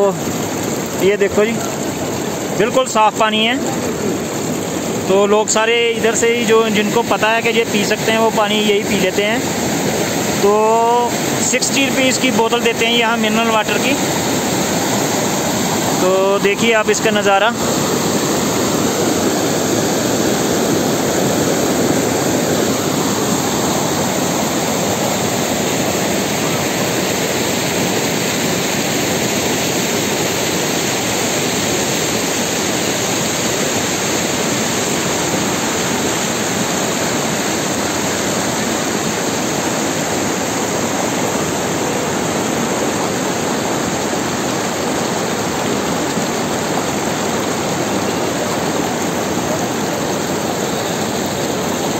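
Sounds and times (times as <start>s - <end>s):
river rushing: 0.0s - 51.9s.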